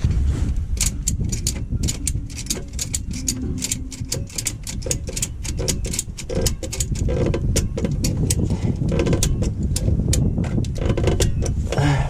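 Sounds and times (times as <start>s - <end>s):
steady low rumble: 0.0s - 10.4s
ratchet strap clicking: 0.7s - 11.8s.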